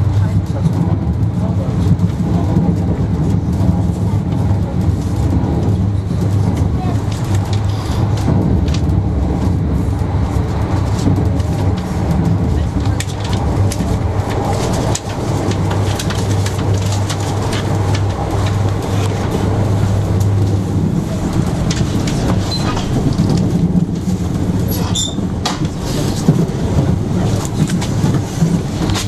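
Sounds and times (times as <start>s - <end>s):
running gear clicks and rattles: 0.0s - 29.0s
train rumble inside coach: 0.0s - 29.0s.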